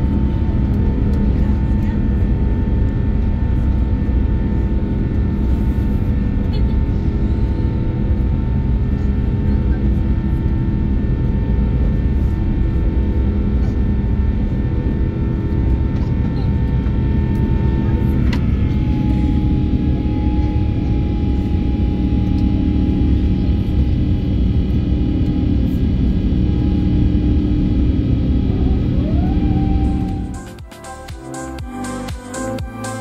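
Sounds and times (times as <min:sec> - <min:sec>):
jet engines roaring in cabin: 0:00.0 - 0:30.7
steady humming tones: 0:00.0 - 0:33.0.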